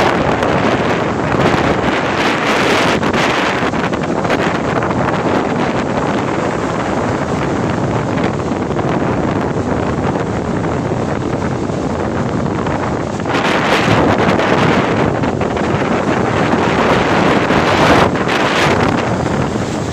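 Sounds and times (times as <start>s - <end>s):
sea surf breaking: 0.0s - 19.9s
wind buffeting microphone: 0.0s - 19.9s.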